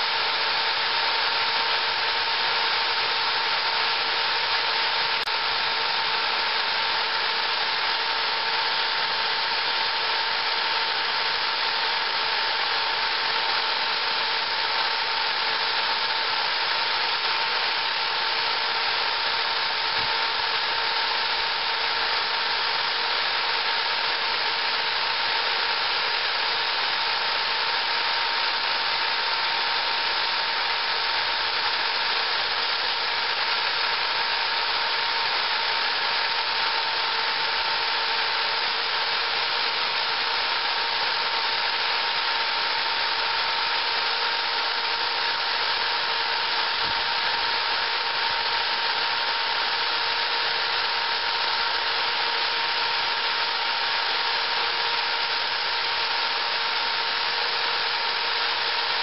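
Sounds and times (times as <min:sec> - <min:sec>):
power drill whining: 0:00.0 - 0:59.0.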